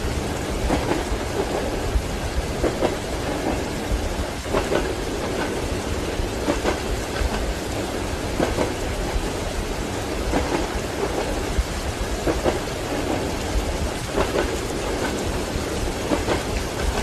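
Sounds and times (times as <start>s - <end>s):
steady rain: 0.0s - 17.0s
train wheels clacking on rail joints: 0.2s - 17.0s.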